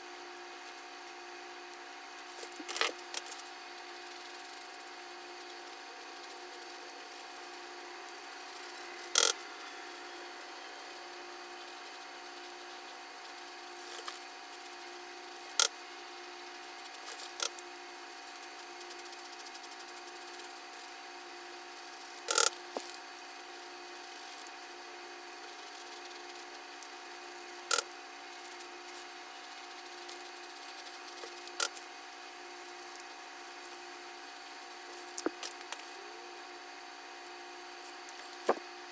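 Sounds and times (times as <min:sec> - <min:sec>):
steady hum with held tones: 0:00.0 - 0:38.9.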